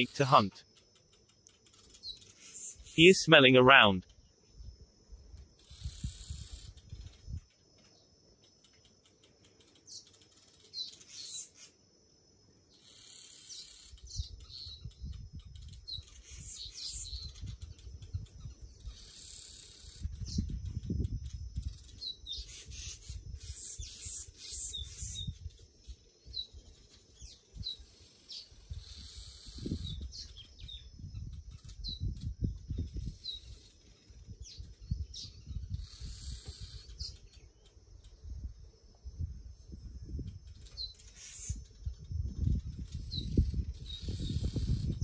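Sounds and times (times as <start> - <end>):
birds chirping: 0.0 - 11.8, 12.6 - 45.0.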